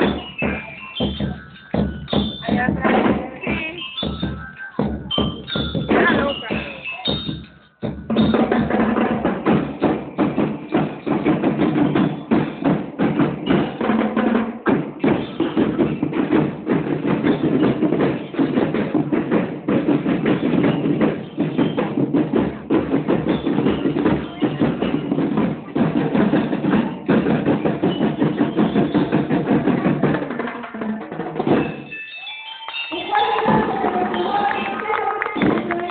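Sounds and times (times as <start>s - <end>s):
bell lyres playing tune: 0.0s - 35.9s
drum line beating fast rhythm: 0.0s - 35.9s.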